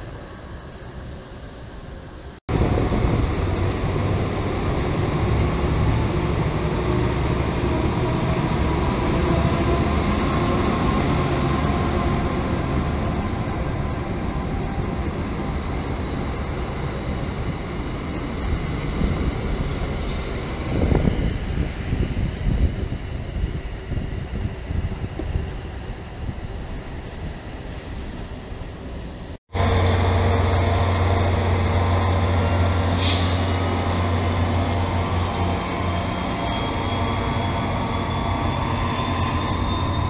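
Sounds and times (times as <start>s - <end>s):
train wheels rumbling on rail: 0.9s - 40.0s.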